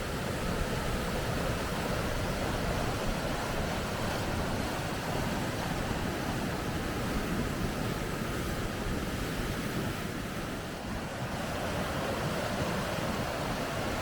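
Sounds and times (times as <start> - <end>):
water rushing through rapids: 0.0 - 14.0.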